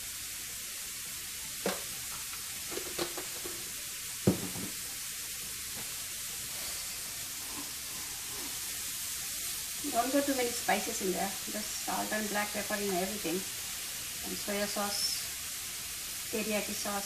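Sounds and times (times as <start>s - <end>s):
shrimp sizzling on griddle: 0.0s - 17.0s.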